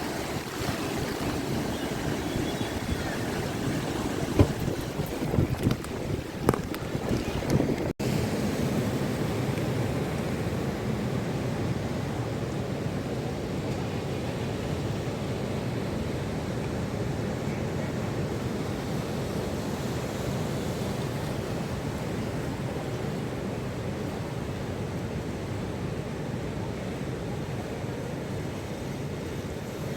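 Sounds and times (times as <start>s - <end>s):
sea surf rushing: 0.0s - 29.9s
wind: 0.0s - 29.9s.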